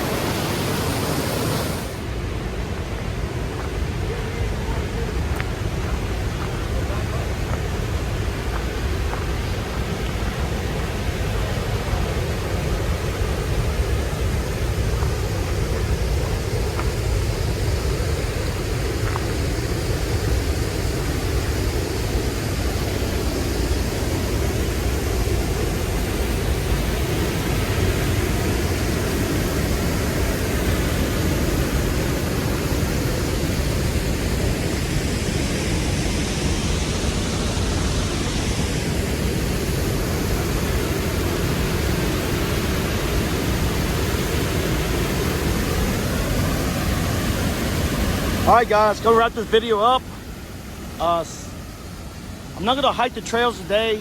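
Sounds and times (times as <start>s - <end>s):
creek water rushing over rocks: 0.0s - 54.0s.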